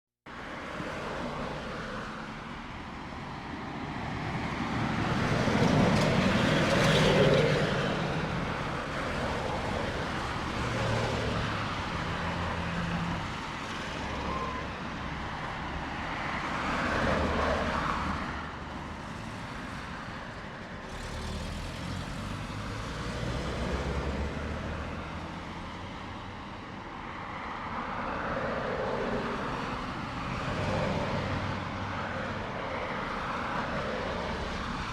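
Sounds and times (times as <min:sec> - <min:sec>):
vehicles passing: 0:00.4 - 0:34.9.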